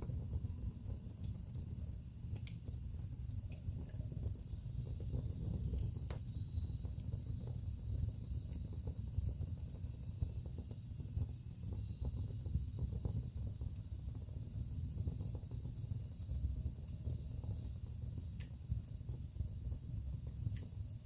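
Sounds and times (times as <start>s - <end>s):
sharp fire pops: 0.0s - 20.9s
flames rumbling: 0.0s - 21.0s.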